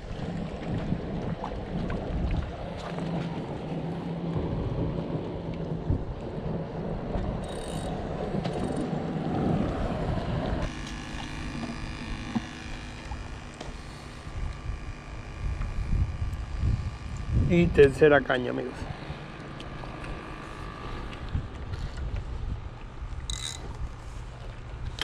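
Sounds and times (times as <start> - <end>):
steady hum of even tones: 0.0 - 25.0
water lapping on rocky shore: 0.0 - 25.0
wind buffeting microphone: 0.0 - 25.0.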